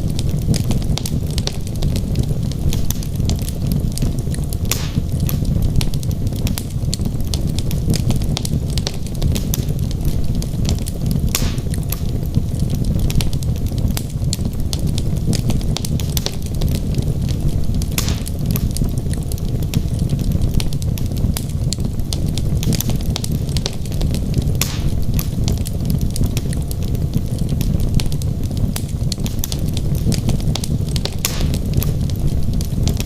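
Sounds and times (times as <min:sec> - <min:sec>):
fire crackles and pops: 0:00.0 - 0:33.0
low roar of flame: 0:00.0 - 0:33.0.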